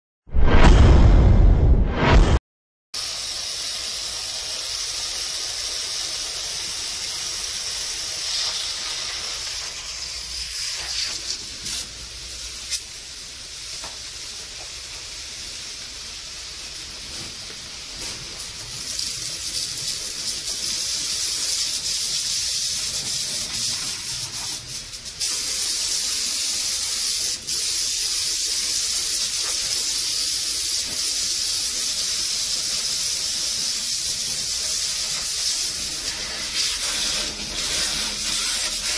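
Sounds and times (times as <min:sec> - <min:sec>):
hose water spraying on metal: 0:03.0 - 0:38.9.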